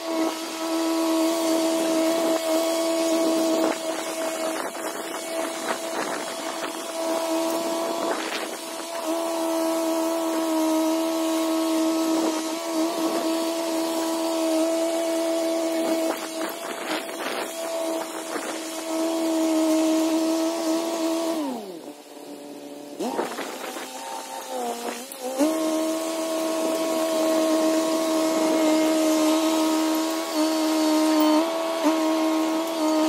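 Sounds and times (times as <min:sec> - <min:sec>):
bulldozer engine whining: 0:00.0 - 0:33.0.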